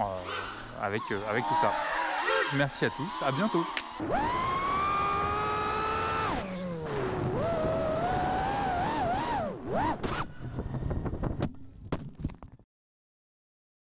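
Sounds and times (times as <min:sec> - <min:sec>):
drone motors whining: 0:00.0 - 0:11.5.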